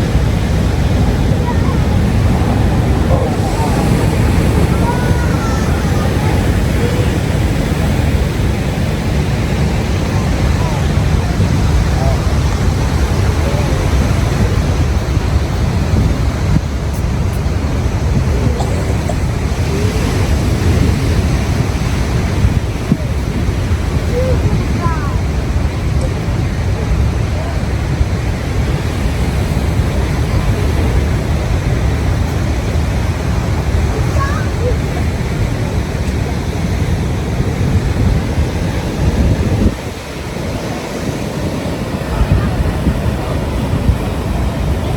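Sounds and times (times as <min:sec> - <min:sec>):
surf washing on rocky shore: 0:00.0 - 0:44.9
wind rumbling on microphone: 0:00.0 - 0:44.9.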